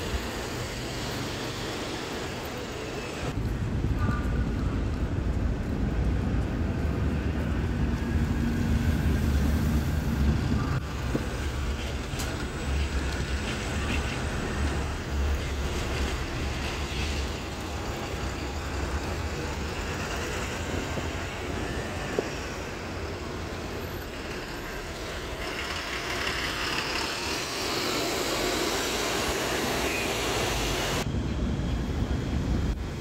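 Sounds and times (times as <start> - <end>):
street traffic: 0.0 - 33.0.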